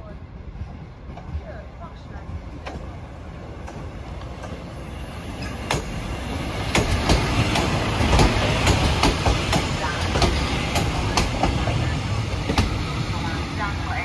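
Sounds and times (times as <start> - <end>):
low train rumble: 0.0 - 14.0
train wheels clacking: 0.7 - 14.0.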